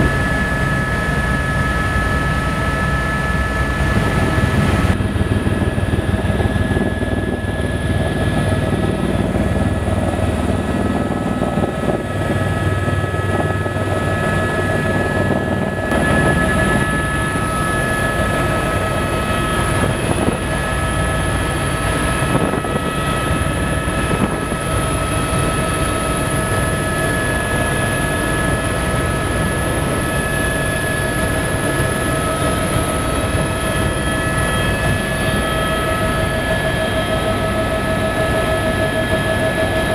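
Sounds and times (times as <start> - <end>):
helicopter rotor rumble: 0.0 - 39.9
helicopter turbine whine: 0.0 - 39.9.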